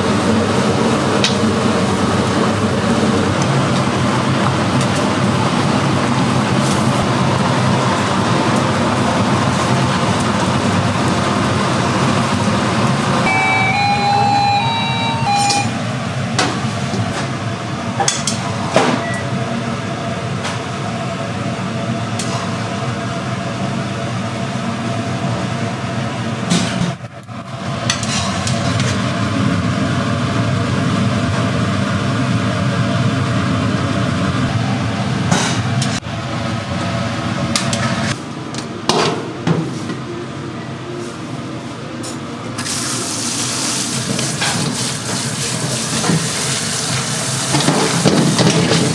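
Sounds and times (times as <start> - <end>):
low rumble of burners or ventilation: 0.0 - 48.9.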